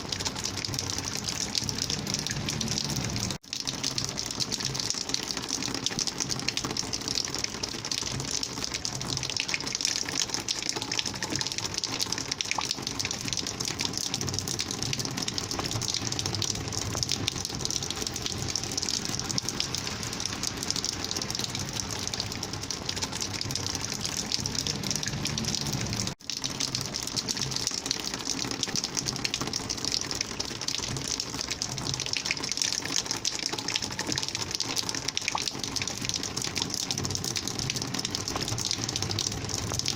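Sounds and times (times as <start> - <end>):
rainwater gushing: 0.0 - 39.9.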